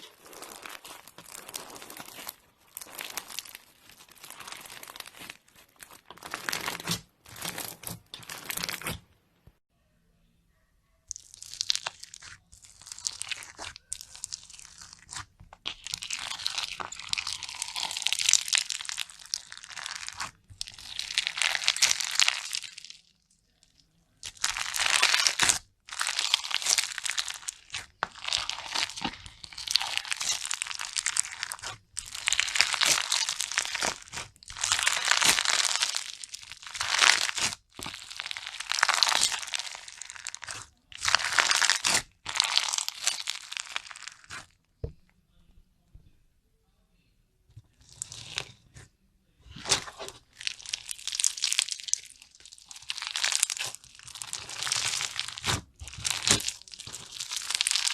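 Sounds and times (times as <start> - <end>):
slime squeezed crunching and crackling: 0.0 - 9.0, 11.1 - 44.6, 47.8 - 48.8, 49.5 - 57.9.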